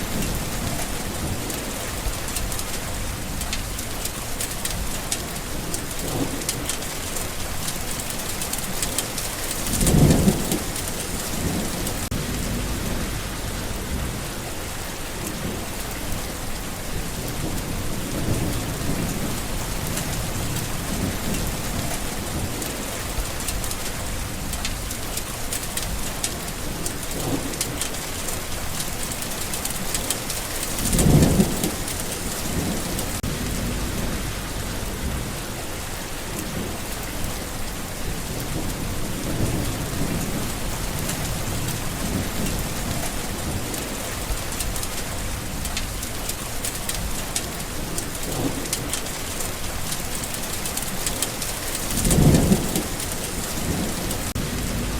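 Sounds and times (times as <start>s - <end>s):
steady rain: 0.0s - 54.9s
thunder rumbling: 0.0s - 54.9s.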